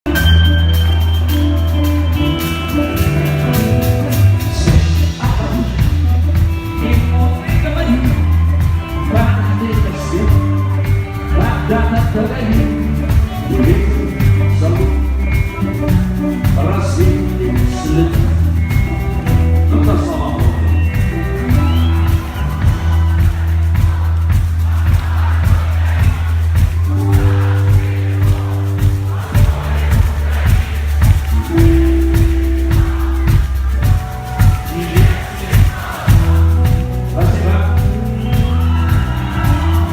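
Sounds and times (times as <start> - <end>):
heavy bass line: 0.0 - 39.9
rock band playing live: 0.0 - 39.9.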